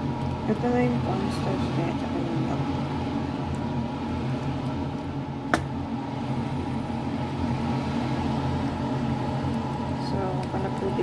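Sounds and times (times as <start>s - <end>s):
kitchen fan humming: 0.0s - 11.0s.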